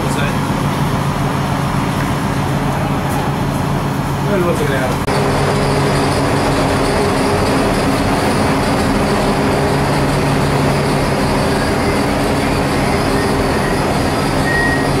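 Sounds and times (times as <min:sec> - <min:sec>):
diesel railcar engine idling: 0:00.0 - 0:15.0.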